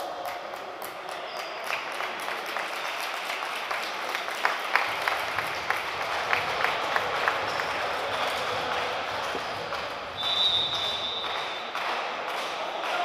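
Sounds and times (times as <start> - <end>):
crowd applauding: 0.0 - 13.0
sharp claps: 0.0 - 13.0.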